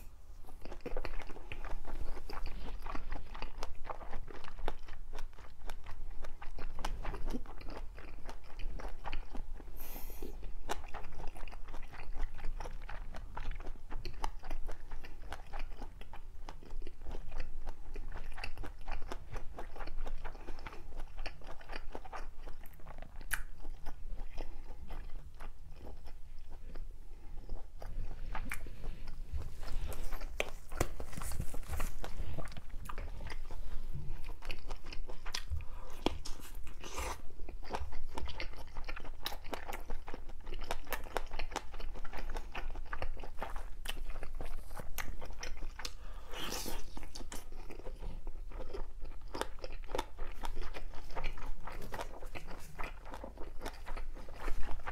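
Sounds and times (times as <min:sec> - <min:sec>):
person chewing and crunching food: 0:00.0 - 0:54.9.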